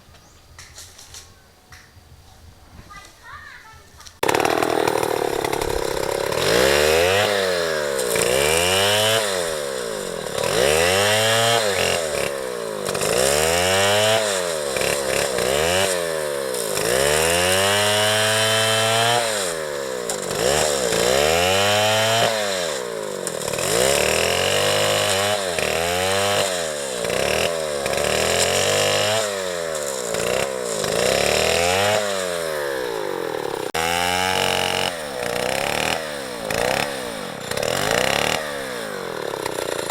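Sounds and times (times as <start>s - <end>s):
chainsaw cutting into tree: 4.2s - 39.9s.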